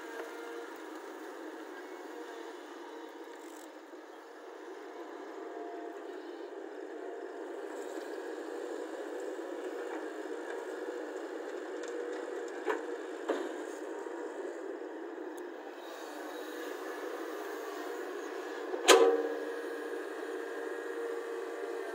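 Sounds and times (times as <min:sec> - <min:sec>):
excavator engine and hydraulics: 0:00.0 - 0:21.9.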